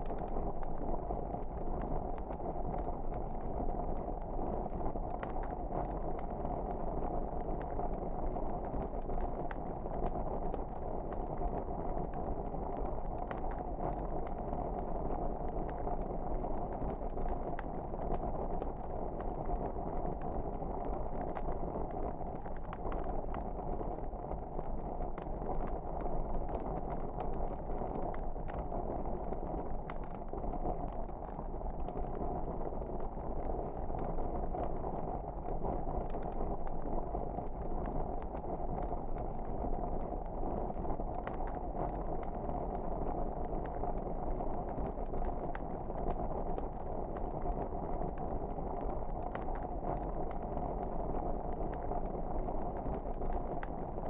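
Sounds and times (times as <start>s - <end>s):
fire crackles and pops: 0.0s - 54.0s
wood fire burning: 0.0s - 54.0s.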